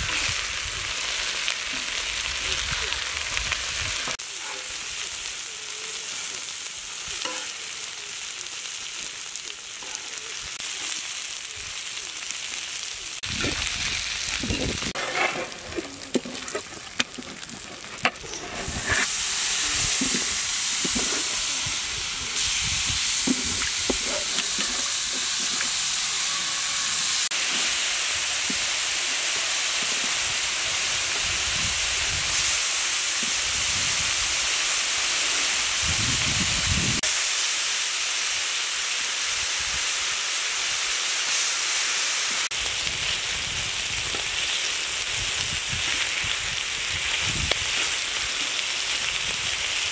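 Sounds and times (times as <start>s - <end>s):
chicken sizzling on griddle: 0.0s - 49.9s.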